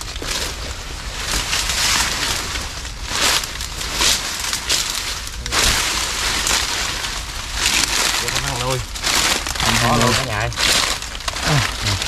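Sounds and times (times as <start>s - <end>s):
leaves and brush rustling: 0.0s - 12.0s
steady low rumble: 0.0s - 12.0s.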